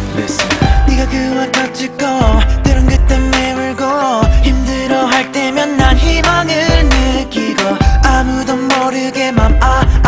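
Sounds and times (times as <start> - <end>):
song with heavy bass line: 0.0 - 10.0.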